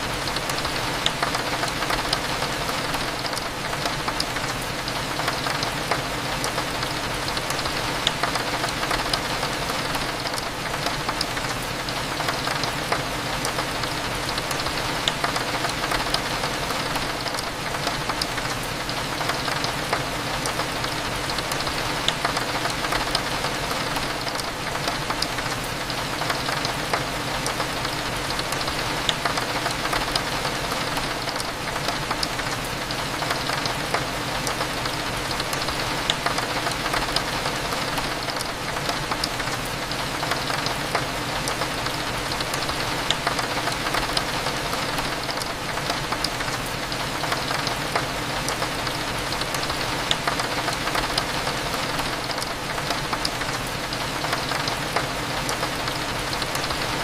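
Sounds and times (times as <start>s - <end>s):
raindrops ticking on window glass: 0.1s - 57.0s.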